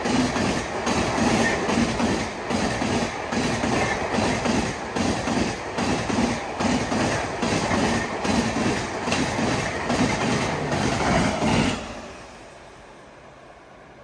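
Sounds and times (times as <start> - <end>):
train wheels clattering over rail joints: 0.0 - 11.9
train running noise rush: 0.0 - 14.0.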